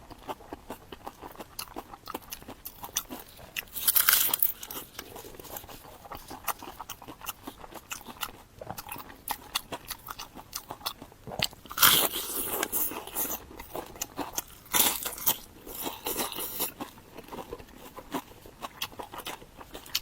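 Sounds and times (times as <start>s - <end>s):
crunchy food chewing: 0.0s - 20.0s.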